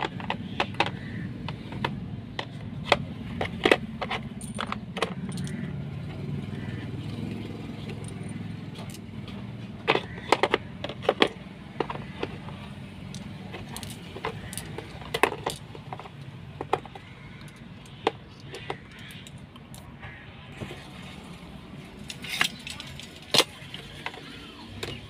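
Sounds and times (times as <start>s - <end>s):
metal sockets clinking: 0.0s - 5.8s, 7.7s - 20.0s, 22.0s - 25.0s.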